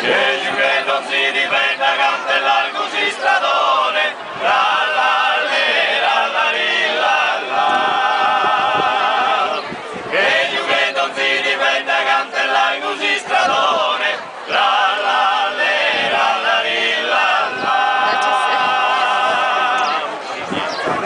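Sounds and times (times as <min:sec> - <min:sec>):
male choir singing a cappella: 0:00.0 - 0:20.8.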